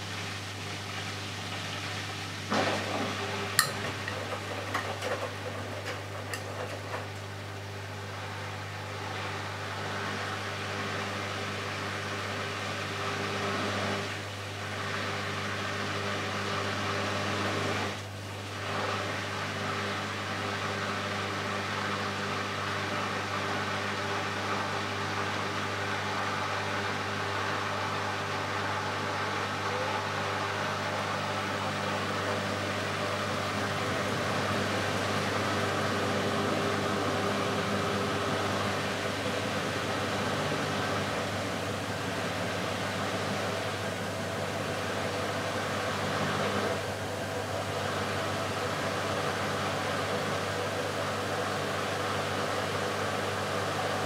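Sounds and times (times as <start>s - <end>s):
washing machine motor humming: 0.0s - 54.0s.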